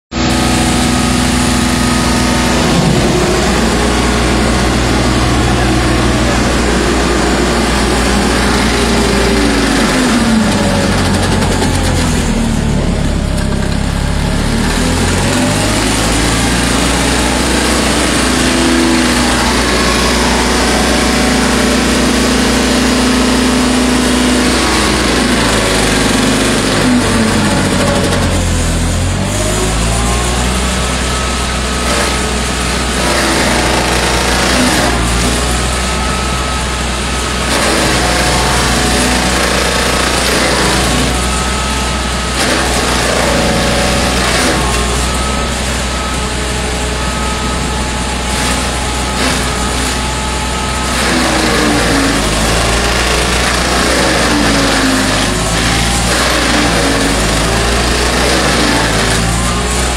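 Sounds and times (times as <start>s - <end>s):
engine running hard under load: 0.1s - 59.9s
rotor grinding wood: 0.2s - 59.9s.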